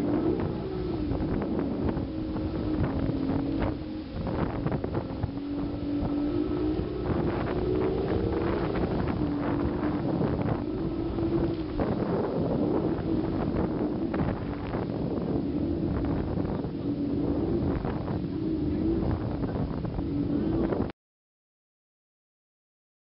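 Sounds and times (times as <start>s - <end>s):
motorboat engines droning: 0.0s - 20.9s
wind buffeting microphone: 0.0s - 20.9s.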